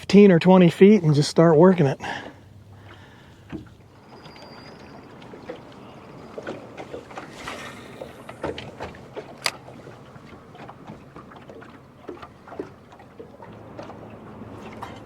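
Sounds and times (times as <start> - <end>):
water lapping against a hull: 0.0 - 15.0.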